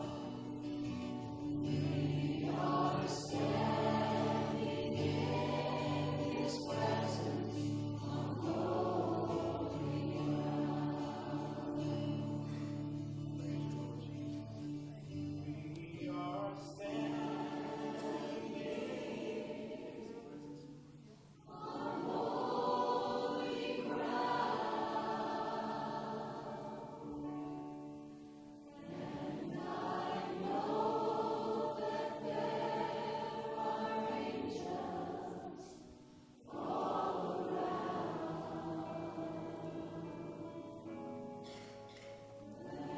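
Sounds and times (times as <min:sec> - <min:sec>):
congregation singing: 0:00.0 - 0:42.9.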